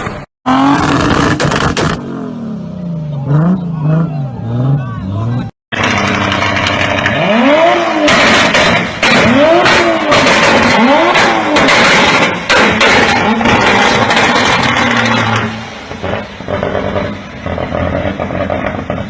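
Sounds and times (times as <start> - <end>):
car engine revving: 0.5 - 19.0.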